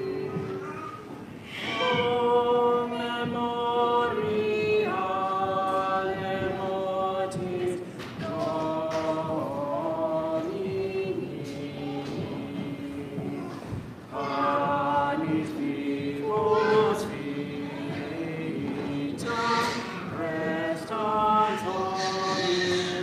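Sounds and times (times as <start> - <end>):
unaccompanied voices chanting: 0.0 - 23.0.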